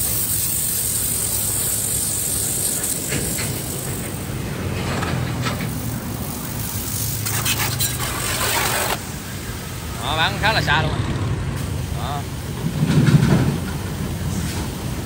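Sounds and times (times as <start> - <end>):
pressure washer motor humming: 0.0 - 12.2
water jet hissing on concrete: 0.0 - 15.0.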